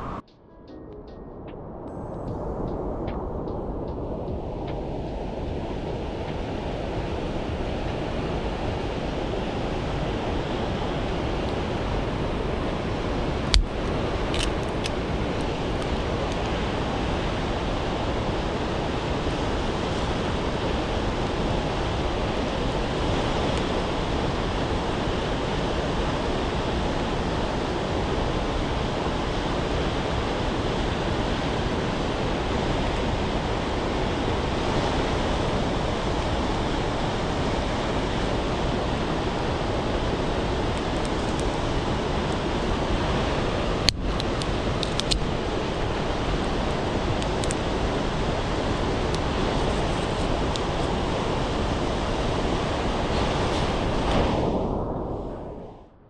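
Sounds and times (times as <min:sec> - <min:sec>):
stream water rushing: 0:04.5 - 0:54.2.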